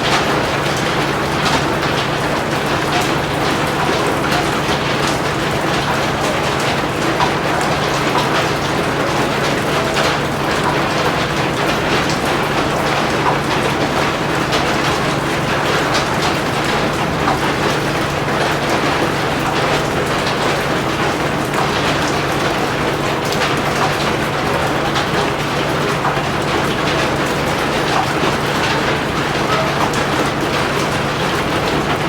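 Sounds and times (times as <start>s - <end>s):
heavy rain patter: 0.0s - 32.0s.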